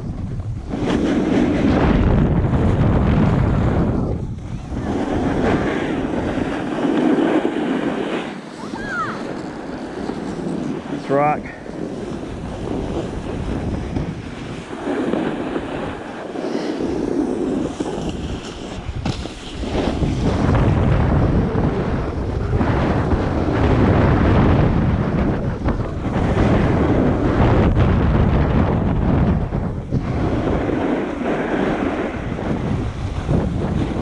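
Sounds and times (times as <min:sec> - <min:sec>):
wind rushing over microphone: 0:00.0 - 0:34.0
skis scraping on snow: 0:00.1 - 0:27.6, 0:29.9 - 0:34.0.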